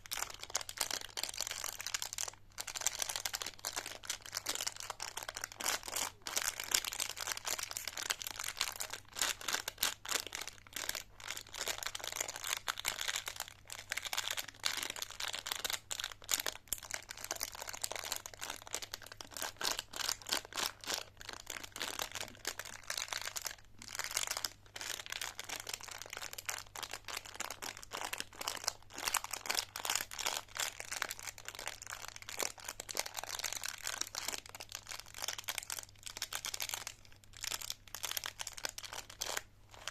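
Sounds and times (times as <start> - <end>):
candy wrappers crinkling: 0.0 - 39.9
faint low hum: 0.0 - 39.9.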